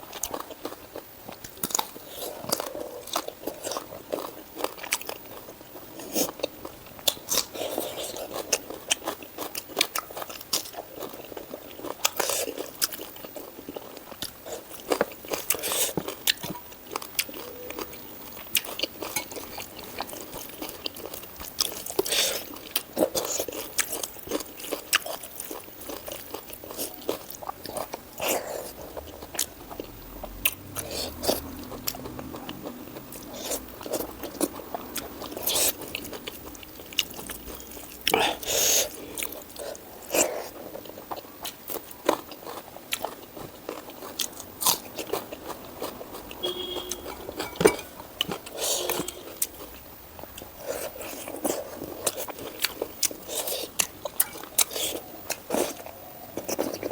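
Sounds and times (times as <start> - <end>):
crunchy bites: 0.0 - 56.9
wet chewing: 0.0 - 56.9.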